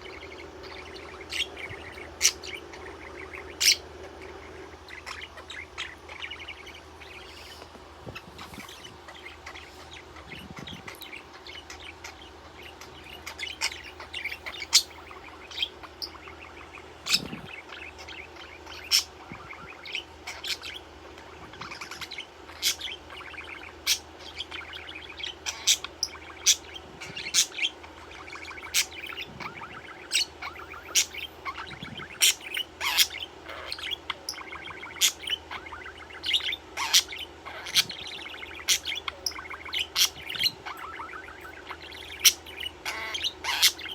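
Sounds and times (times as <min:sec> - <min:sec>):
budgerigar chirping: 0:00.0 - 0:43.9.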